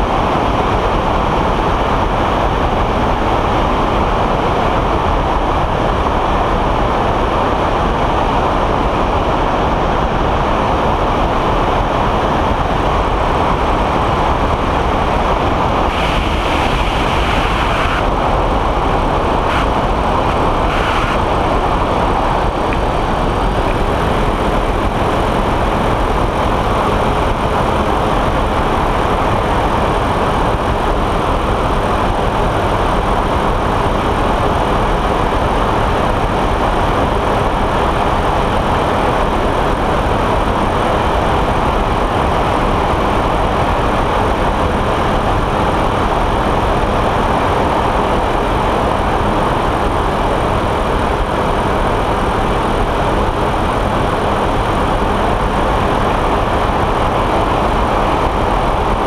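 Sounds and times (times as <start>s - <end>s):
propeller engine running: 0.0s - 59.0s
wind rushing on microphone: 0.0s - 59.0s.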